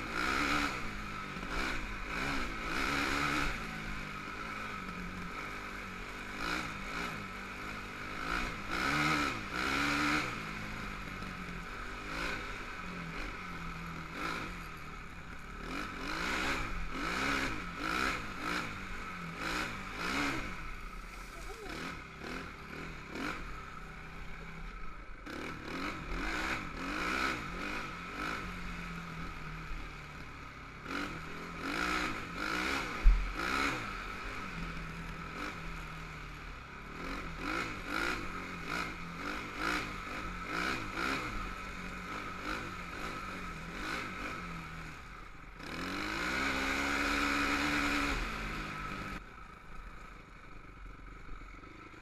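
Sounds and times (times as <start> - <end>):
quad engine revving: 0.0 - 36.2, 36.8 - 49.2.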